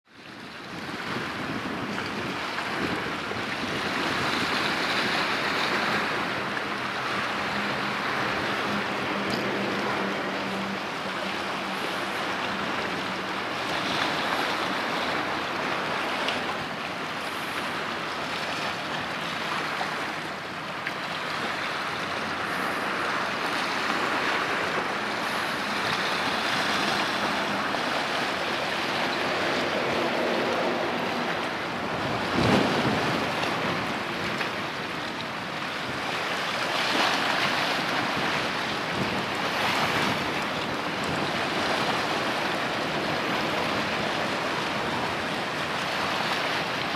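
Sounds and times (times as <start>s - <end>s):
boat bow wave rushing water: 0.0s - 46.9s
wind buffeting microphone: 0.3s - 46.9s.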